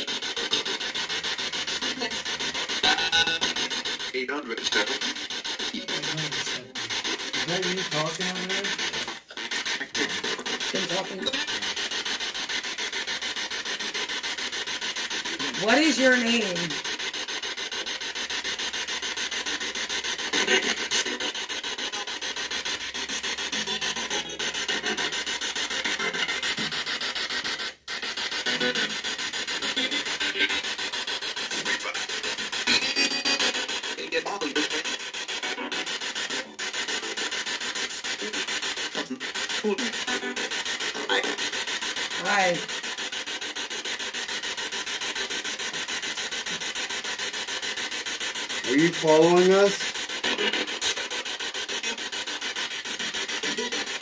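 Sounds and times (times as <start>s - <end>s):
radio static pulsing: 0.0s - 54.0s
snatch of voice: 0.0s - 54.0s.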